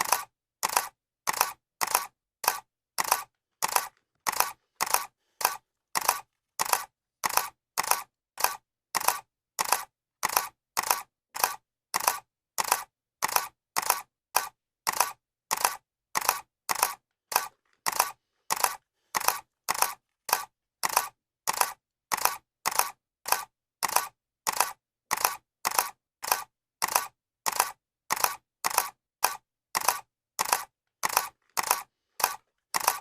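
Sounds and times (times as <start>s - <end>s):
camera shutter clicking: 0.0s - 33.0s.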